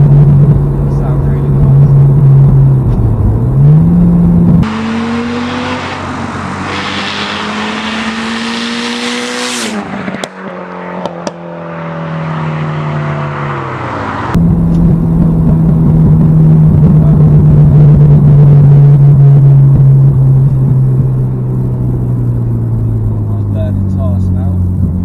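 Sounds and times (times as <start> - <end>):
car engine passing at speed: 1.5 - 23.7.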